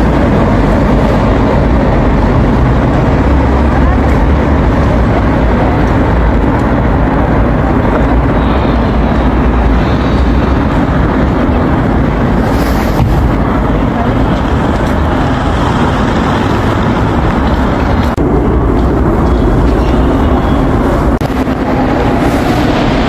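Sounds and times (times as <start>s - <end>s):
subway train wheels rumbling on rails: 0.0s - 23.0s.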